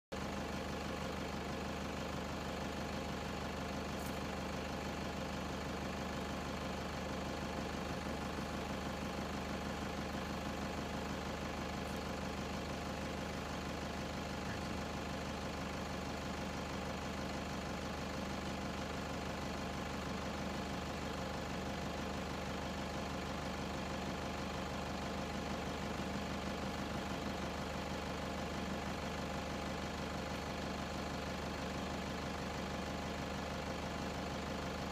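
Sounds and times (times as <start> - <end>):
vehicle engine idling: 0.1 - 34.9.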